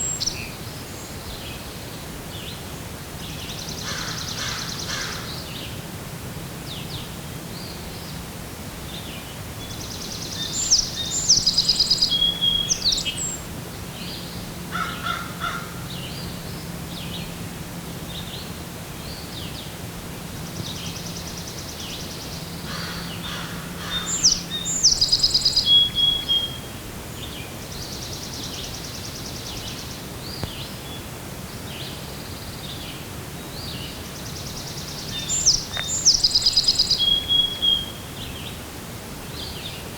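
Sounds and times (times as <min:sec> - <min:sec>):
songbirds singing: 0:00.0 - 0:05.8, 0:06.6 - 0:39.9.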